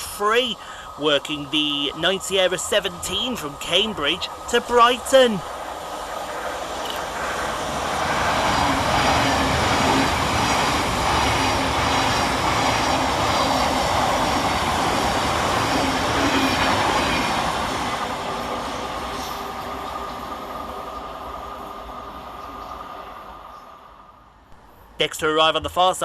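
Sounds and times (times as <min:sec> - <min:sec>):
train wheels rushing on rails: 0:00.0 - 0:24.1.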